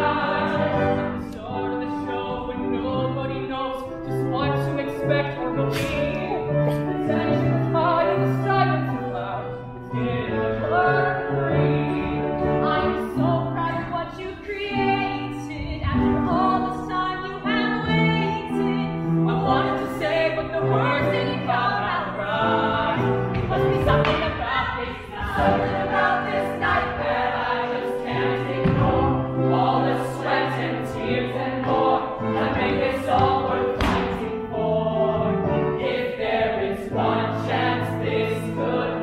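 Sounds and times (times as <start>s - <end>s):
sustained musical accompaniment: 0.0s - 39.0s.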